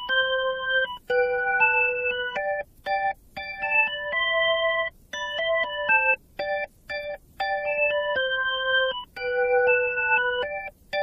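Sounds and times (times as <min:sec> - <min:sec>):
electronic keyboard tune: 0:00.0 - 0:11.0.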